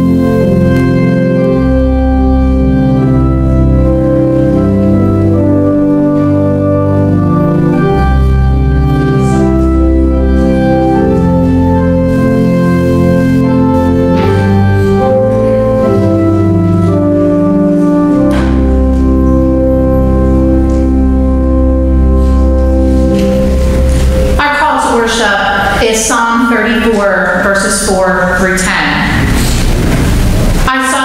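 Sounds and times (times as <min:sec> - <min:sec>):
church organ chords: 0:00.0 - 0:30.7.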